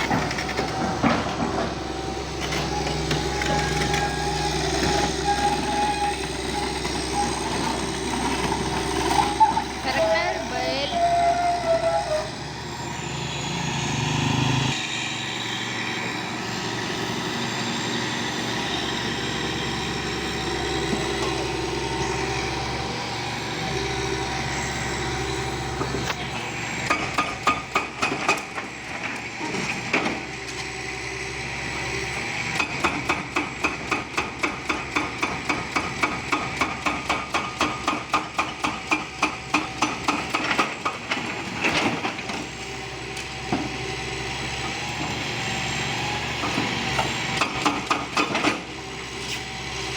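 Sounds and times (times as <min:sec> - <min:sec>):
heavy machine running: 0:00.0 - 0:49.9.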